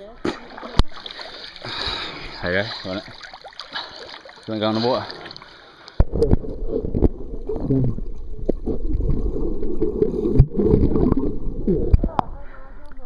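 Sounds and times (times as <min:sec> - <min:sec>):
muffled water sloshing: 0:00.0 - 0:12.2.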